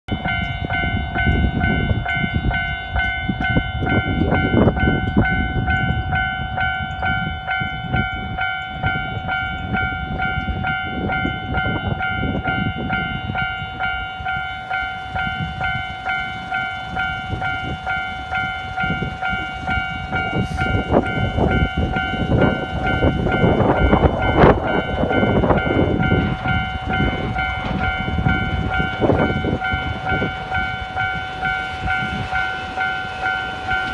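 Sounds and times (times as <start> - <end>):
electric train passing: 0.1 - 33.9
level crossing warning alarm: 0.1 - 33.9.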